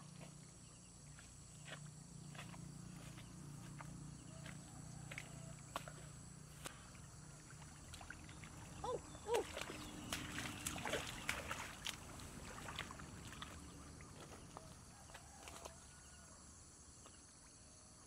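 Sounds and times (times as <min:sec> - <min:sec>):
footsteps splashing through water: 0:00.0 - 0:16.3.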